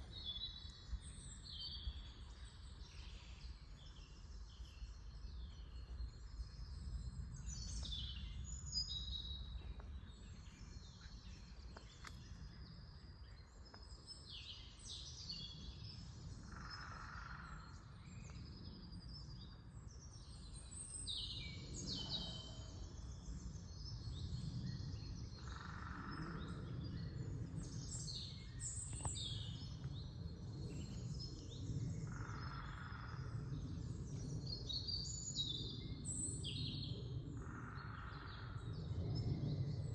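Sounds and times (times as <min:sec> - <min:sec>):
steady low rumble: 0:00.0 - 0:20.8, 0:21.6 - 0:39.9
songbirds singing: 0:00.0 - 0:39.9.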